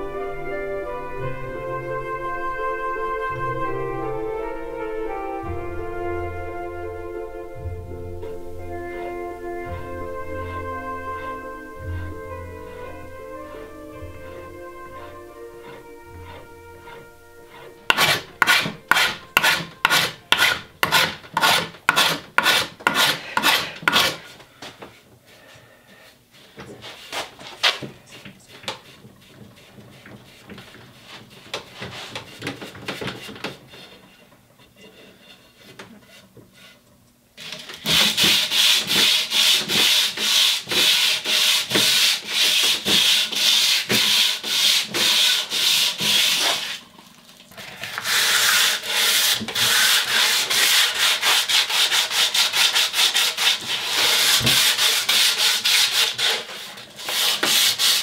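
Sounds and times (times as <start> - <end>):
wood abrading strokes: 8.4 - 25.0, 26.4 - 58.0.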